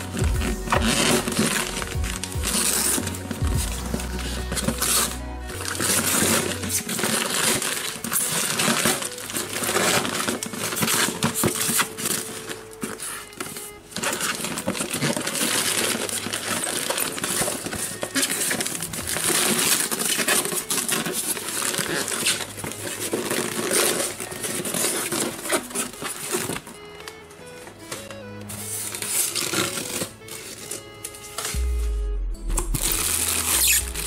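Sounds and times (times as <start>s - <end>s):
wrapping paper crinkling and tearing: 0.0s - 31.7s, 32.5s - 34.0s.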